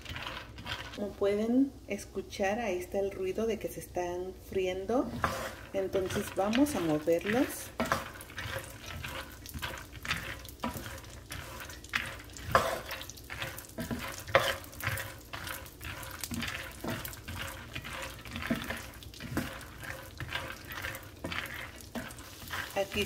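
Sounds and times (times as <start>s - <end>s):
wooden spoon scraping pan: 0.0s - 1.3s, 4.4s - 23.0s
peanuts sizzling in oil: 0.0s - 23.0s.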